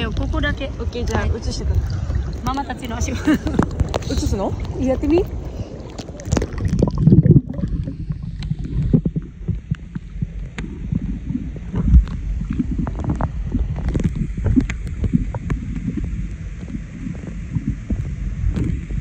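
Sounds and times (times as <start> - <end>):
underwater clicks and crackles: 0.0 - 19.0
underwater water wash: 0.0 - 19.0.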